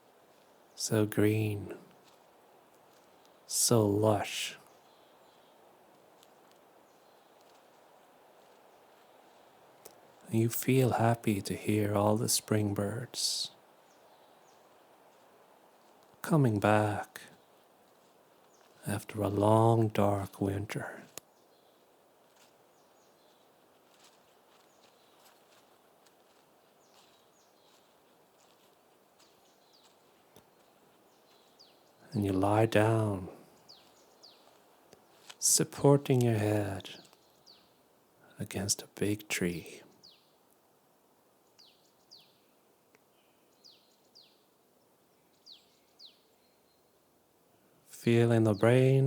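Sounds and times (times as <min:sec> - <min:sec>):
faint birds chirping: 0:00.0 - 0:49.0
outdoor ambience hiss: 0:00.0 - 0:49.0.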